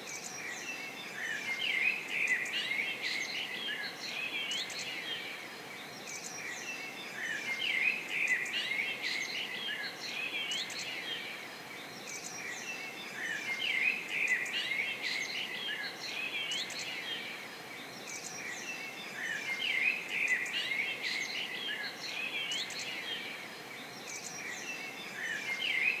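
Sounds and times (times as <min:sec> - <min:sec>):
faint steady hiss: 0:00.0 - 0:26.0
small birds chirping: 0:00.0 - 0:26.0.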